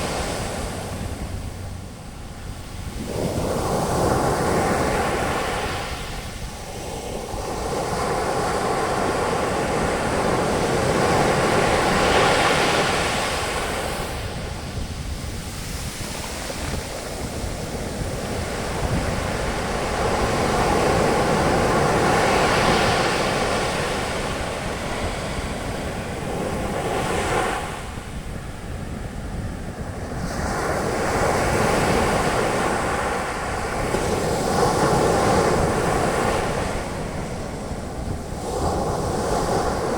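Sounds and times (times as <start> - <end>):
low rumble of surf: 0.0 - 39.9
ocean waves breaking: 0.0 - 39.9.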